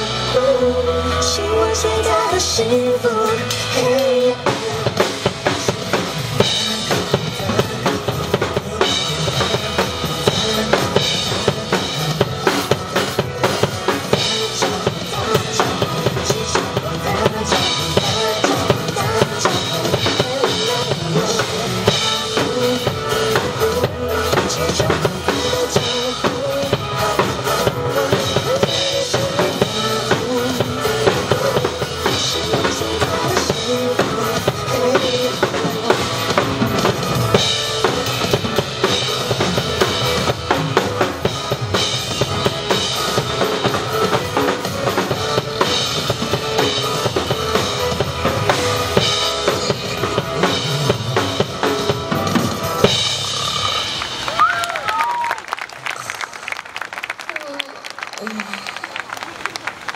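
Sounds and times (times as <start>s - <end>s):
recorded pop song: 0.0s - 55.2s
drum kit playing: 0.0s - 55.3s.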